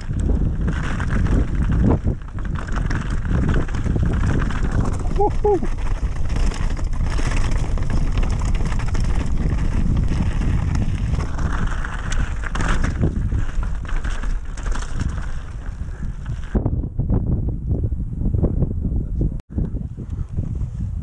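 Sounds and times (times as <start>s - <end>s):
bike rattling over rough trail: 0.0s - 17.4s
wind buffeting microphone: 0.0s - 21.0s.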